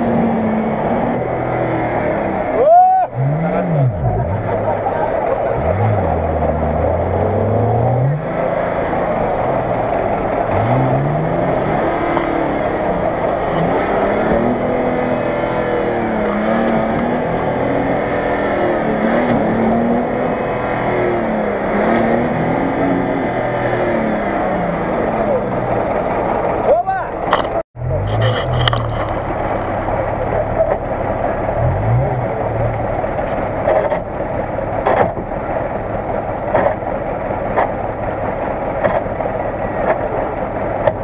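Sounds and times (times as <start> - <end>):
suv engine revving: 0.0 - 41.0.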